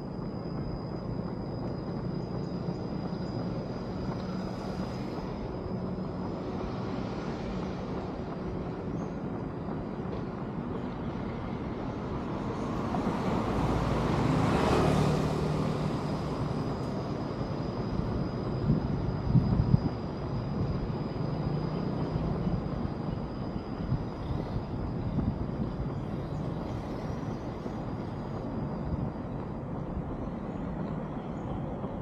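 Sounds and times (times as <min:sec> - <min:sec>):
city traffic noise: 0:00.0 - 0:32.0.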